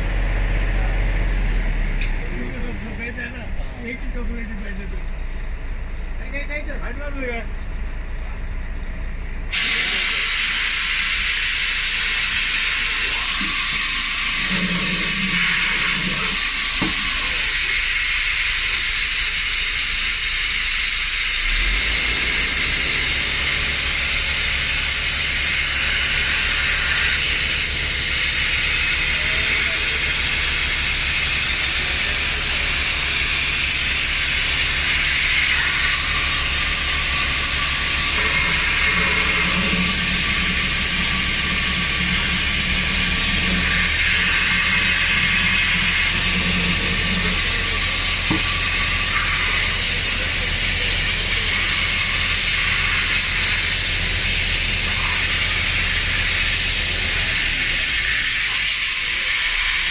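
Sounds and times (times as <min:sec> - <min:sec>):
compressed air hissing: 0:09.5 - 0:59.9.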